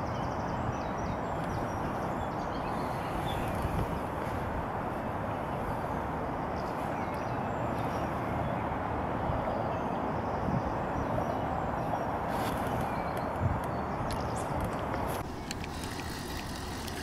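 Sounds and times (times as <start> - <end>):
constant rush with low rumble: 0.0 - 17.0.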